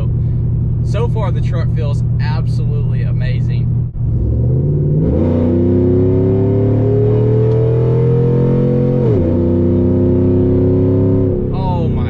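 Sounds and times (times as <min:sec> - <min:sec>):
engine exhaust accelerating: 0:00.0 - 0:12.0.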